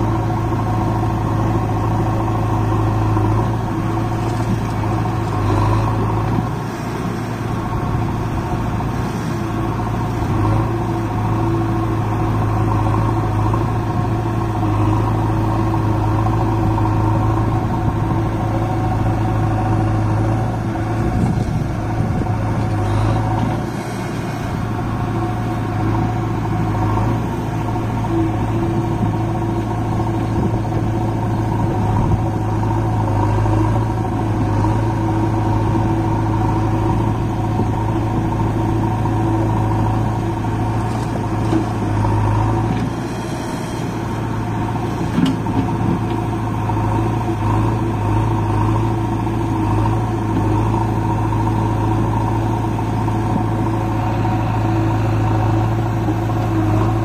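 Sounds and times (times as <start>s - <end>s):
backhoe loader working: 0.0s - 57.0s
tractor diesel engine idling: 0.0s - 57.0s.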